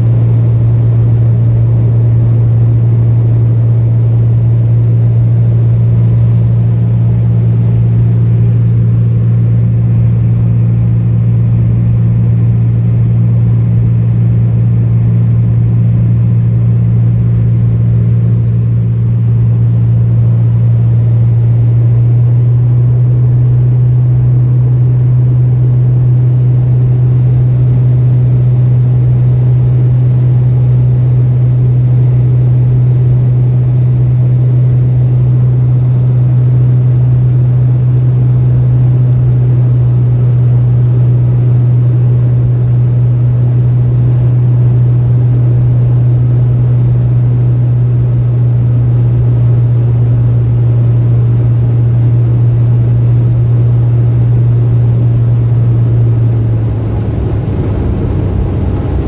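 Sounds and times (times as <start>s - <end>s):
light plane engine droning: 0.0s - 59.0s.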